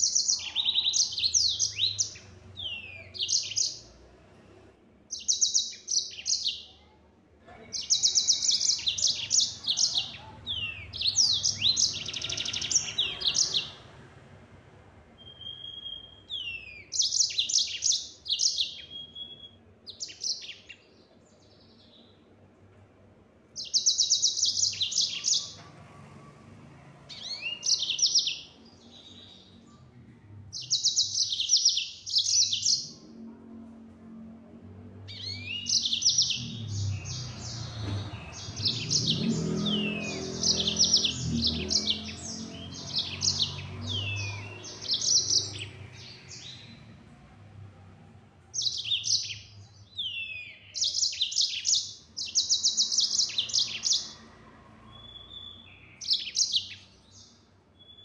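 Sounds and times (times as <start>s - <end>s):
canary singing trilled phrases: 0.0s - 4.1s, 5.1s - 13.9s, 15.2s - 20.8s, 23.6s - 25.6s, 27.1s - 29.8s, 30.5s - 33.2s, 35.1s - 47.0s, 48.5s - 54.3s, 55.0s - 58.0s.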